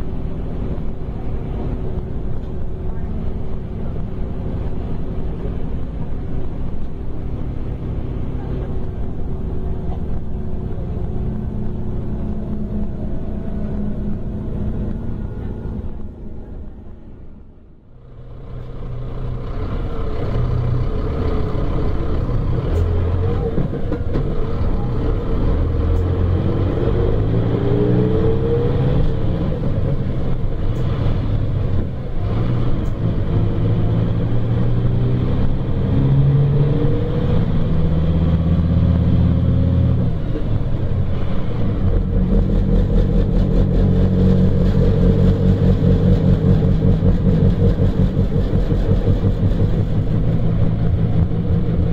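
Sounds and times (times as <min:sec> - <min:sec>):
bus engine accelerating: 0:00.0 - 0:51.9.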